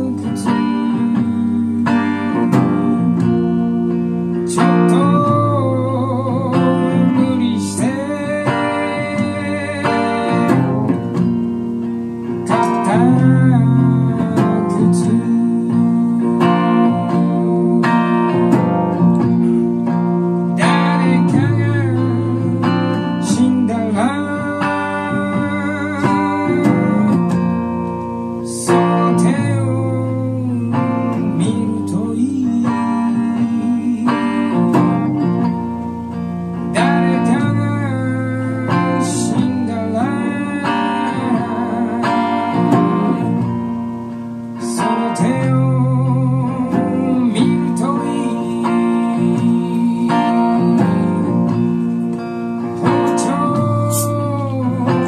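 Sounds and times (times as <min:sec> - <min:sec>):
man singing with vibrato: 0:00.0 - 0:55.0
strummed electric guitar: 0:00.0 - 0:55.0.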